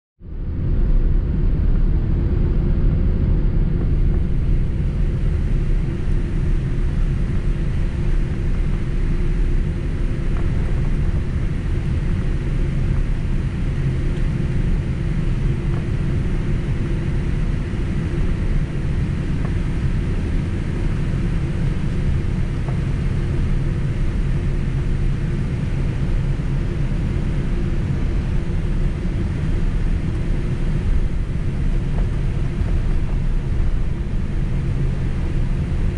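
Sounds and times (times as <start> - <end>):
jet airliner cabin rumble: 0.2 - 35.9.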